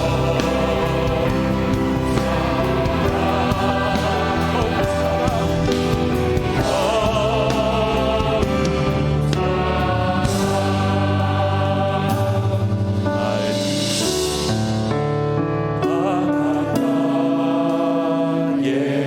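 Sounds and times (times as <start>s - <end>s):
choir-like singing voices: 0.0s - 14.8s, 15.8s - 19.0s
bass: 0.0s - 17.1s
drums: 0.0s - 18.0s
keyboards: 0.0s - 19.0s.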